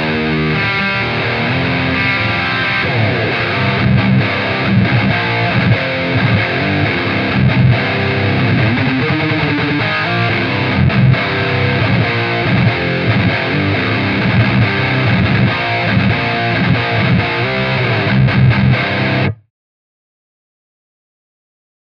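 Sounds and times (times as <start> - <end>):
distorted electric guitar riff: 0.0 - 19.5.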